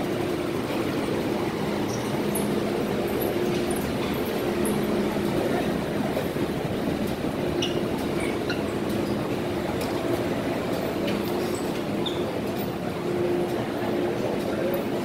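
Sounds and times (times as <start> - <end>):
low traction motor hum: 0.0 - 15.0
train wheels rumbling on rail: 0.0 - 15.0.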